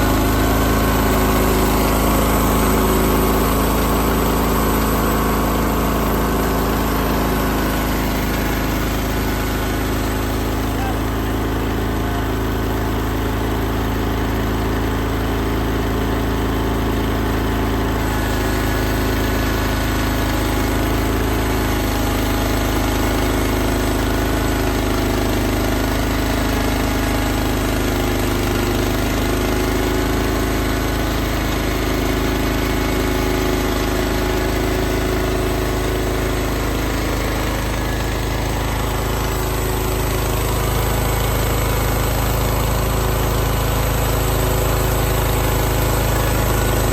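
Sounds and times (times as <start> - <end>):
sawmill engine running: 0.0 - 46.9.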